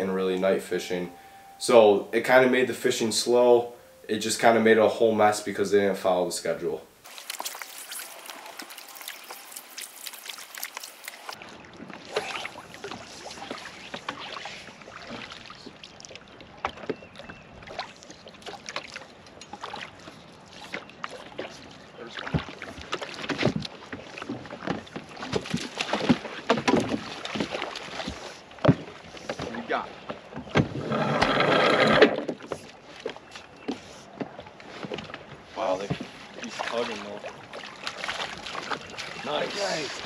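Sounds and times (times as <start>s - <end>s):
water splashing and sloshing: 7.0s - 40.0s.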